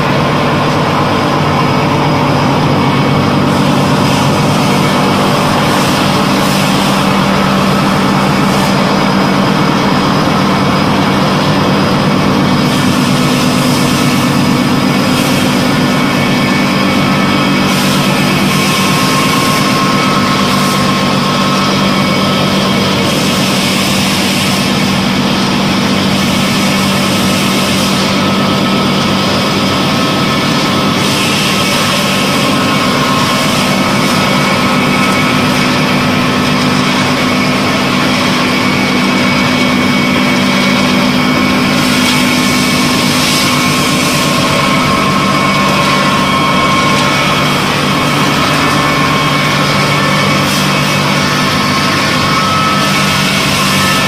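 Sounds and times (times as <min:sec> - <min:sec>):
pellet mill droning: 0:00.0 - 0:54.0.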